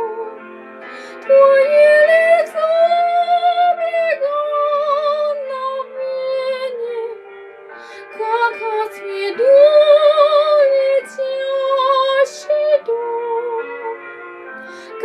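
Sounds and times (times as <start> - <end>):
woman singing with vibrato: 0.0 - 0.4, 1.2 - 7.2, 8.1 - 14.0.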